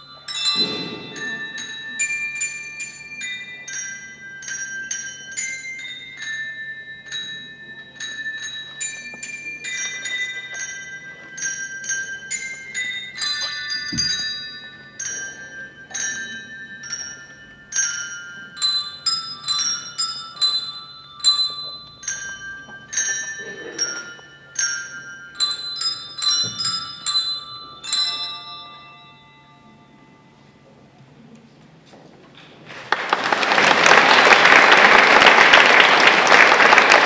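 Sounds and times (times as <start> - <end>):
tuned bells playing slow melody: 0.0 - 30.9.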